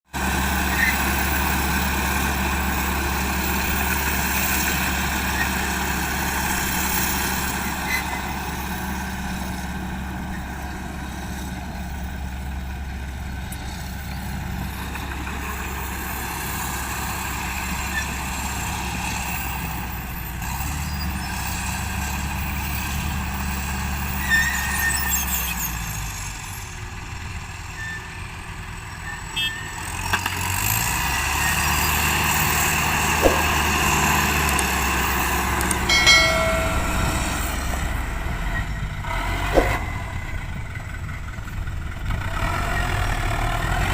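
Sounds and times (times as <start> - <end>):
diesel truck engine running: 0.1 - 43.9.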